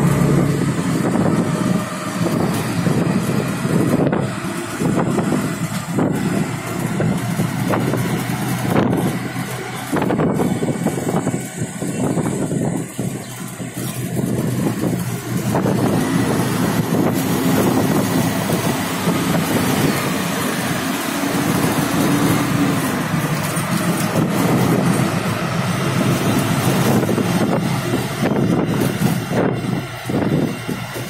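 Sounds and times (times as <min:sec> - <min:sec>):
auto-rickshaw engine: 0:00.0 - 0:31.0
city traffic: 0:00.0 - 0:31.0
wind noise: 0:00.0 - 0:31.0.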